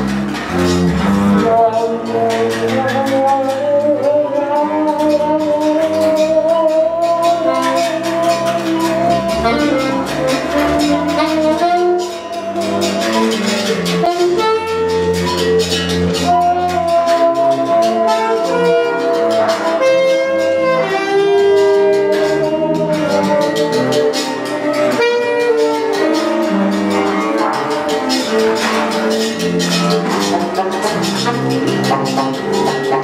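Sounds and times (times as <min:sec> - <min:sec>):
alto saxophone: 0:00.0 - 0:33.0
double bass: 0:00.0 - 0:33.0
percussion strokes: 0:00.0 - 0:33.0
trumpet: 0:00.0 - 0:33.0.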